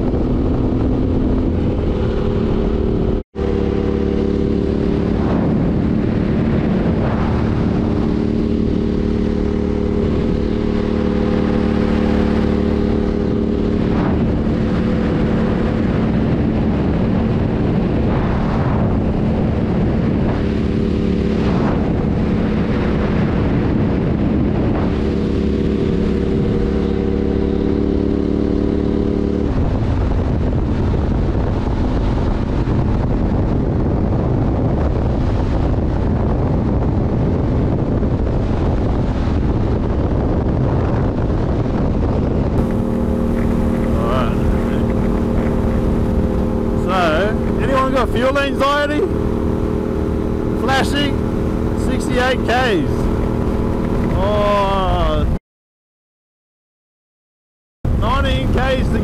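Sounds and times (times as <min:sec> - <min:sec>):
motorcycle engine cruising: 0:00.0 - 0:55.4, 0:57.9 - 0:59.0
wind rushing over microphone: 0:00.0 - 0:55.4, 0:57.9 - 0:59.0.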